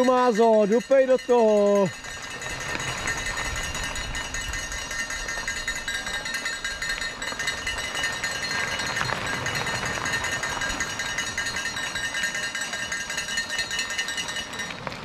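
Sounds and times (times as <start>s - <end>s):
metallic ringing: 0.0s - 14.8s
bike rattling on rough trail: 0.0s - 15.0s.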